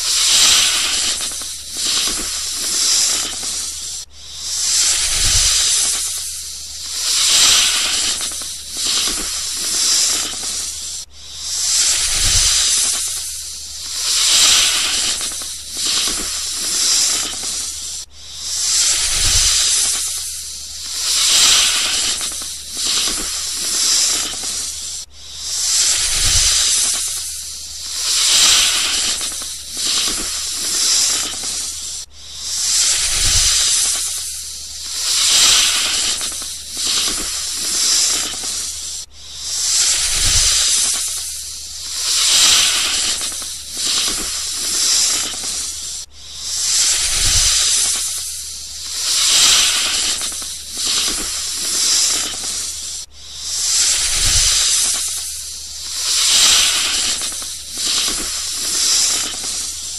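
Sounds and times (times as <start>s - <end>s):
snake hissing: 0.0s - 59.9s.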